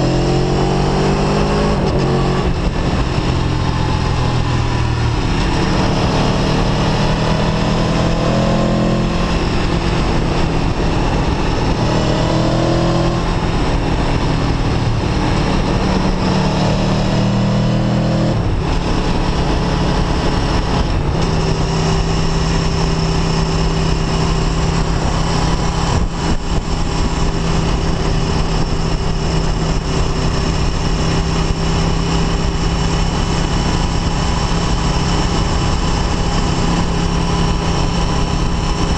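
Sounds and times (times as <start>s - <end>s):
motorcycle engine revving: 0.0s - 38.9s
wind and road rush: 0.0s - 38.9s.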